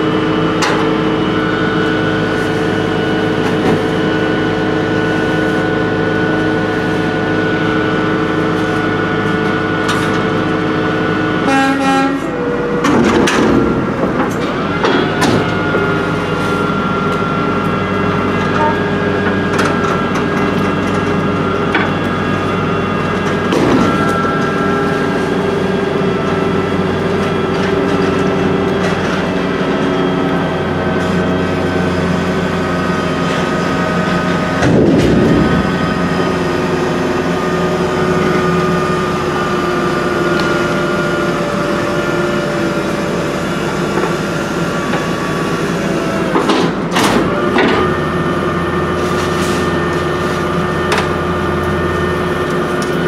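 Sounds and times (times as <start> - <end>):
hydraulic whine: 0.0 - 53.0
truck engine under hydraulic load: 0.0 - 53.0.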